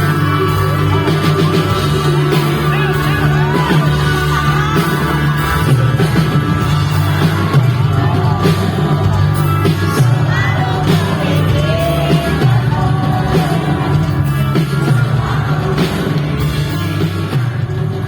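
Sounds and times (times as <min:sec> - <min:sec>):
live pop-rock band: 0:00.0 - 0:18.0
person singing: 0:00.0 - 0:18.0.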